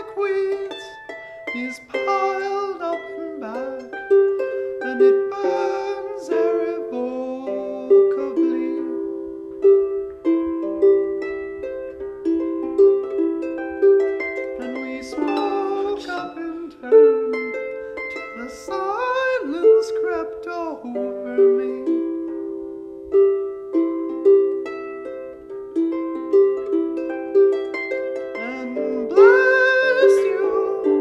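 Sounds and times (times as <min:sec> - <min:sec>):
plucked string instrument: 0:00.0 - 0:31.0.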